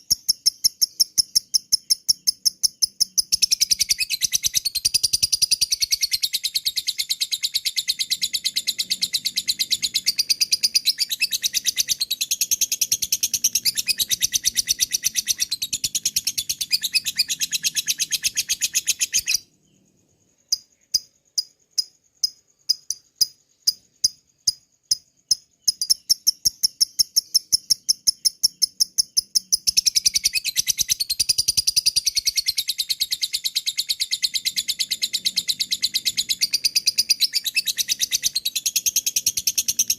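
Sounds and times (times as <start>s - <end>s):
lovebird chattering trill: 0.0s - 19.5s, 20.4s - 39.9s.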